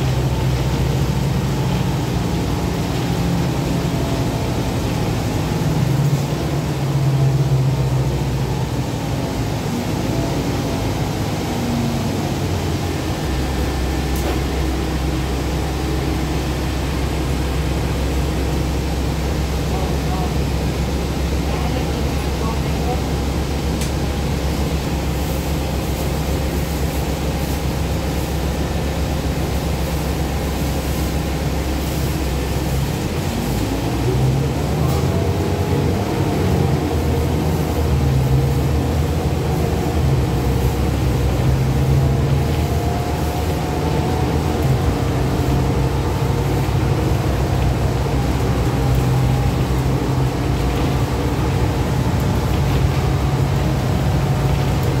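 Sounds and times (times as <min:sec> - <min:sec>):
bus engine: 0:00.0 - 0:55.0.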